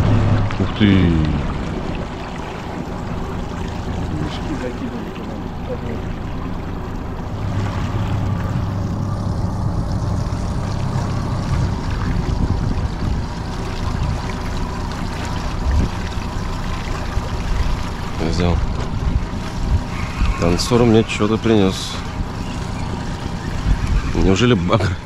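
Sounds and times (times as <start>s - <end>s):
outboard motor running: 0.0s - 25.0s
water washing along hull: 0.0s - 25.0s.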